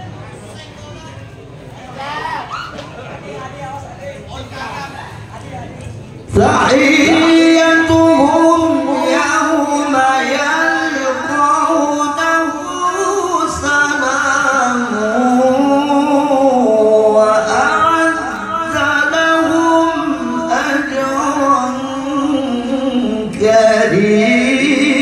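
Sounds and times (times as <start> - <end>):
man reciting melodically: 4.2 - 25.0.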